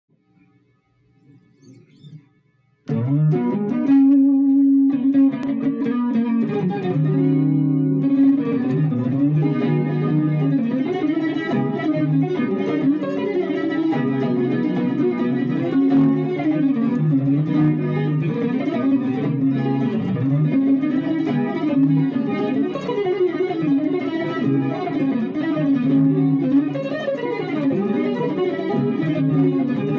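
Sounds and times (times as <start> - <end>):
electric guitar chords ringing: 2.8 - 29.9.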